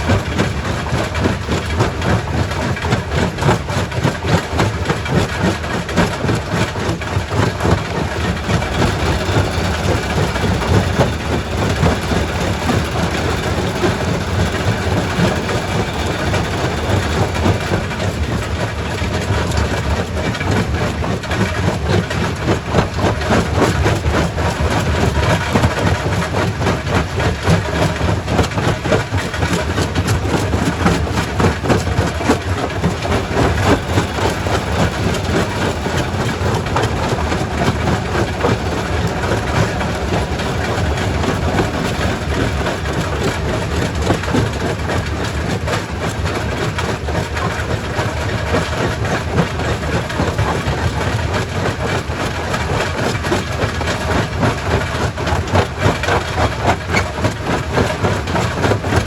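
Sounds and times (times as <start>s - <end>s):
heavy machinery rumble: 0.0s - 59.0s.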